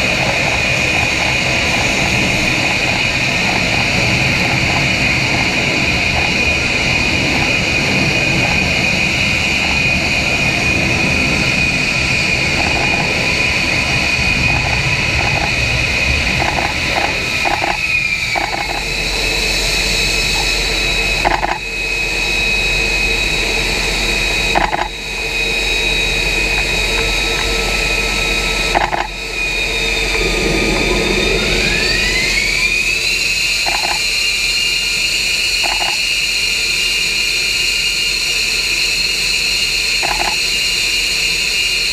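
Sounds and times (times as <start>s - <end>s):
jet engine roar with high whine: 0.0s - 41.9s.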